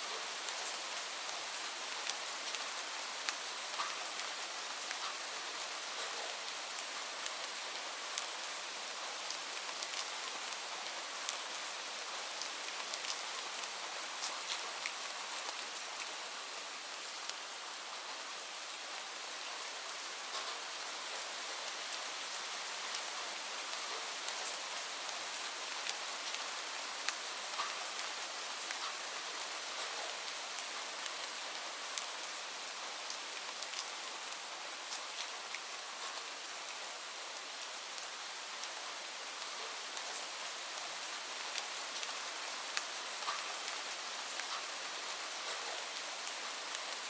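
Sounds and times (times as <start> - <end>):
rain falling on leaves: 0.0 - 47.0.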